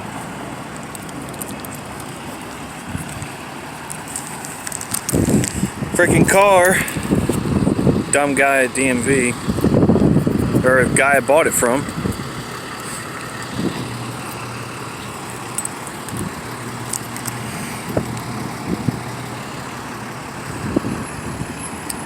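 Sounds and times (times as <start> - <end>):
traffic noise: 0.0 - 22.0
vehicle engine running: 0.0 - 22.0.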